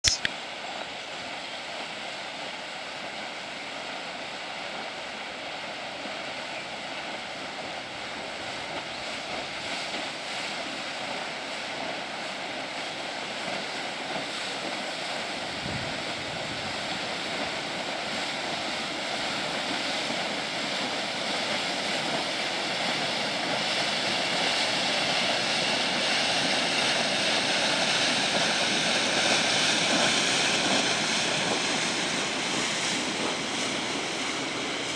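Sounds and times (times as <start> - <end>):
ship rushing through water: 0.5 - 34.9.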